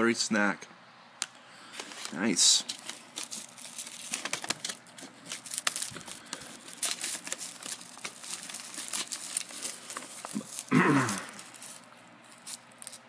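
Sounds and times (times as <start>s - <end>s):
plastic pack crinkling: 1.7s - 13.0s.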